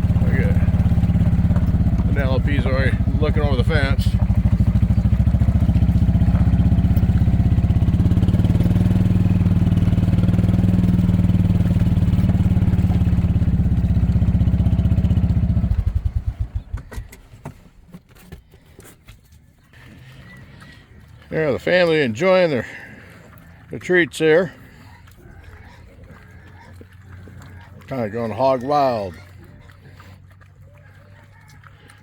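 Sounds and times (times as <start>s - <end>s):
small gas engine running: 0.0s - 17.6s, 19.8s - 32.0s.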